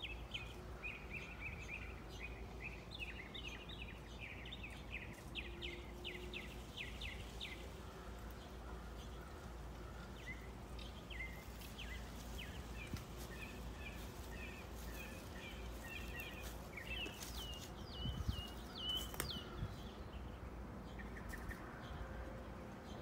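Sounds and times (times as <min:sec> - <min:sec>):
songbirds chirping and whistling: 0:00.0 - 0:23.0.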